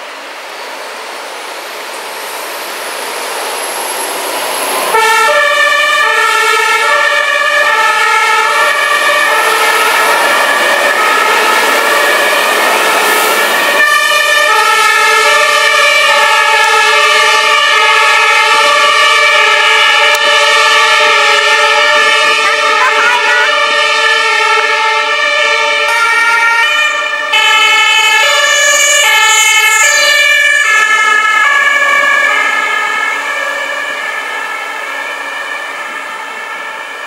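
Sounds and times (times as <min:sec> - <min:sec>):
two-tone fire engine sirens: 0:00.0 - 0:37.0.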